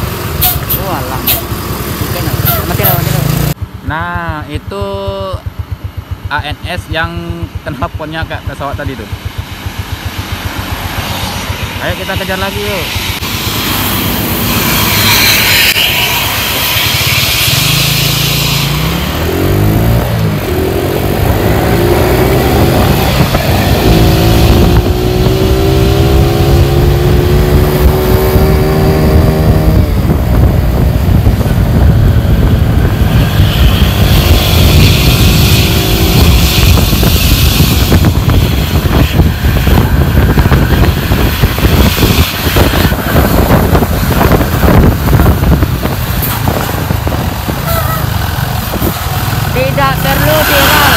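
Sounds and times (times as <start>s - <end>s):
vehicle engines accelerating: 0.0s - 3.9s, 5.4s - 50.9s
wind hissing over microphone: 7.7s - 50.9s.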